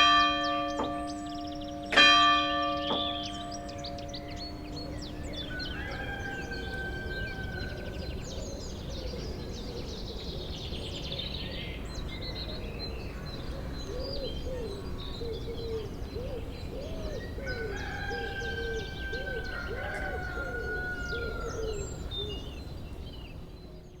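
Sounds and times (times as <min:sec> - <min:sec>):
songbirds singing and chirping: 0:00.0 - 0:24.0
low cooing calls: 0:02.8 - 0:11.4, 0:12.4 - 0:23.0.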